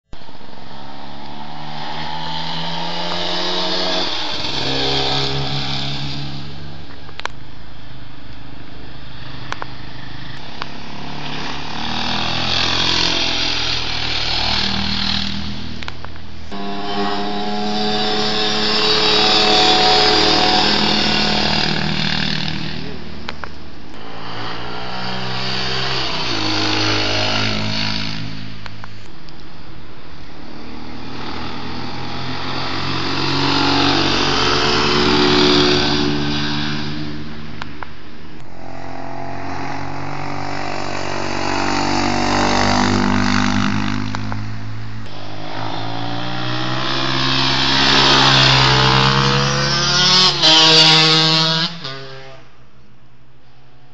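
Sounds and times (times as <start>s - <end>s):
motorcycle engines revving: 0.2s - 52.9s.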